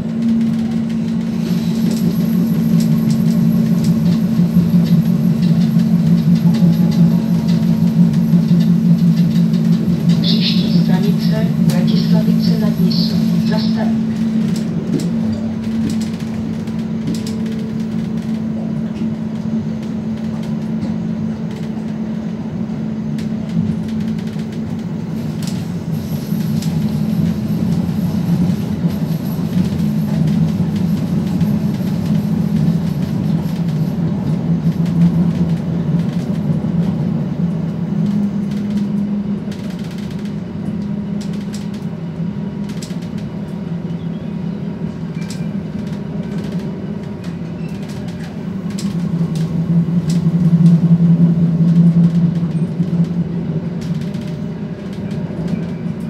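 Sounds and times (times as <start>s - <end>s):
diesel engine drone: 0.0s - 56.0s
train wheels on rails: 0.0s - 56.0s.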